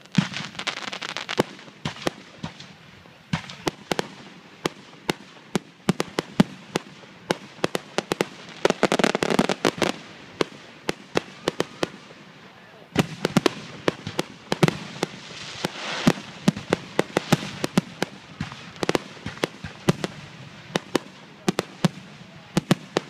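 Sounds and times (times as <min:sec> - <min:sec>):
fireworks bursting with sharp bangs: 0:00.0 - 0:23.0
fireworks crackling: 0:00.0 - 0:23.0.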